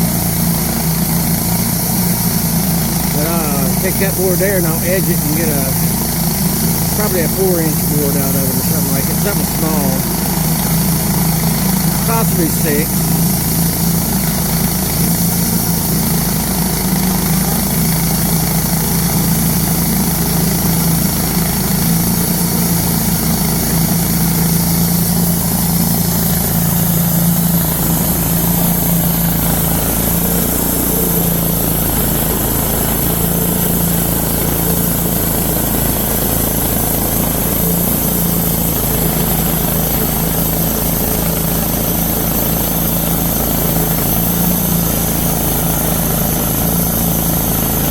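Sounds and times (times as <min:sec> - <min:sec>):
band sawmill running: 0:00.0 - 0:47.9.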